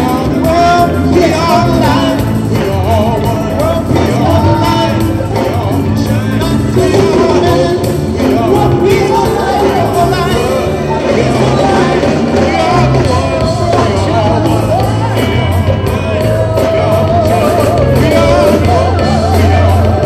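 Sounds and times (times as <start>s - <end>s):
steady bass line: 0.0s - 20.0s
voices singing together: 0.0s - 20.0s.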